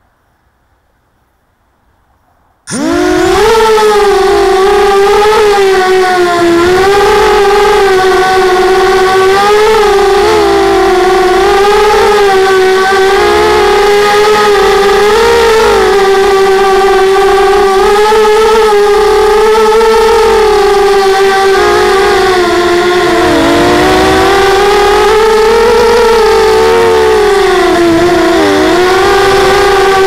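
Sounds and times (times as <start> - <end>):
drone motors whining: 2.7 - 30.0.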